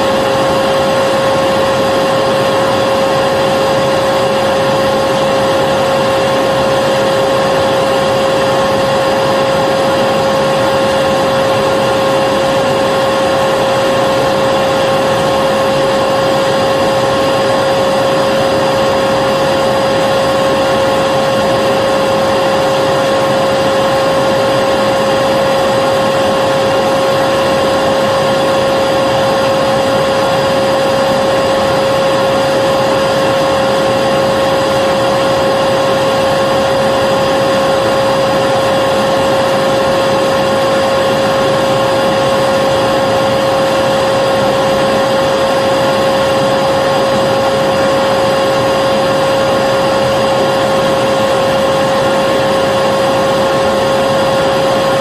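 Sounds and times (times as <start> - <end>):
vacuum cleaner motor running: 0.0 - 55.0.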